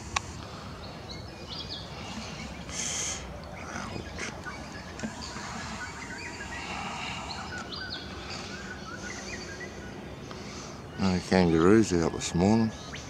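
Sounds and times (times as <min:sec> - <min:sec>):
distant bird chirps: 0:00.0 - 0:13.0
outdoor background hiss: 0:00.0 - 0:13.0.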